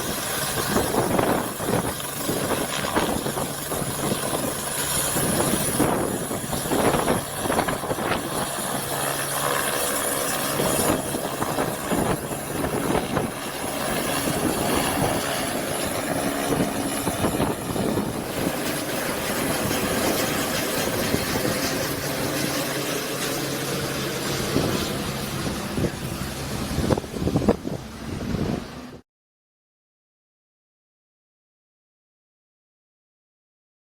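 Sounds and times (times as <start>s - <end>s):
helicopter engine and rotor roar: 0.0s - 29.0s
high turbine whine: 0.0s - 29.0s.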